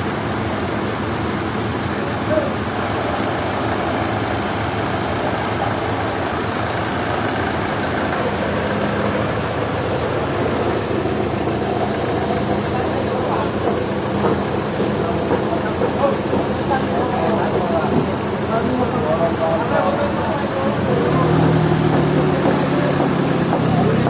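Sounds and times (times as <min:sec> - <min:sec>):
sawmill machinery running: 0:00.0 - 0:24.0.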